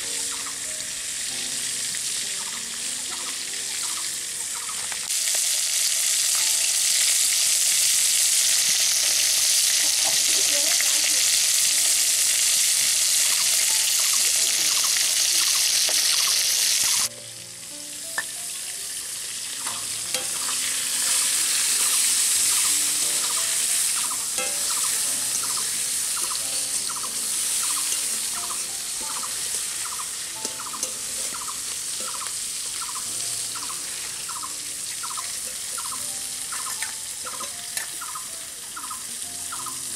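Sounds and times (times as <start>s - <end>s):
faint background music: 0.0s - 39.9s
spices sizzling in hot oil: 0.0s - 39.9s.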